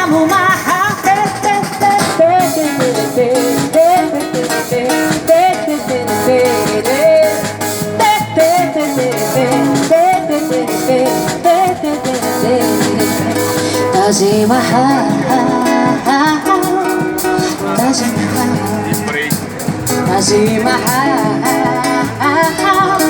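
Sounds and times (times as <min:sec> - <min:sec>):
samba band playing: 0:00.0 - 0:22.8.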